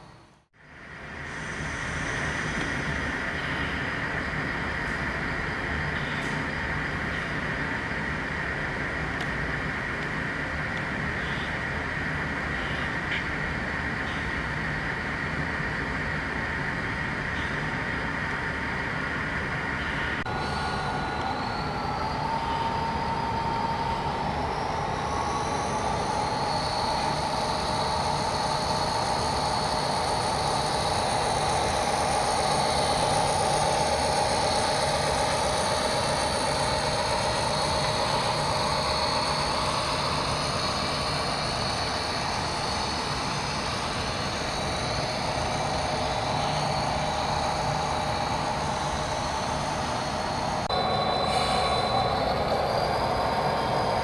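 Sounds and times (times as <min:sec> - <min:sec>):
model locomotive whine: 0:00.0 - 0:54.0
rumbling hiss: 0:00.0 - 0:54.0.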